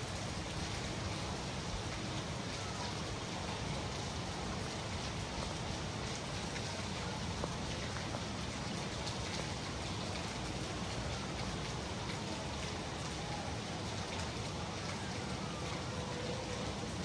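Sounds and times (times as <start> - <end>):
raindrops ticking on surfaces: 0.0 - 17.0.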